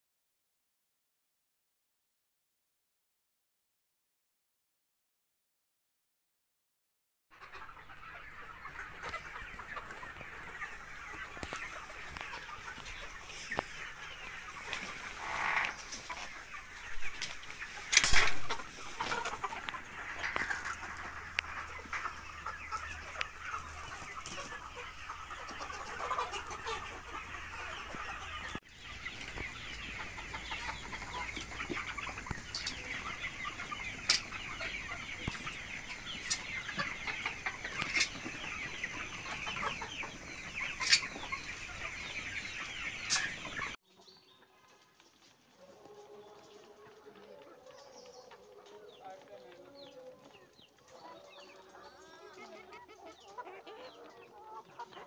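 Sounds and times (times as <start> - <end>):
hens clucking: 7.3 - 55.0.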